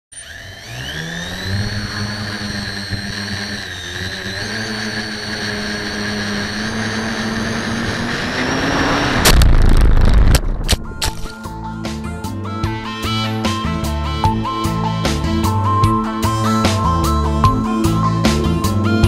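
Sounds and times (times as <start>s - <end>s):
drone motors and propellers whining: 0.1s - 19.0s.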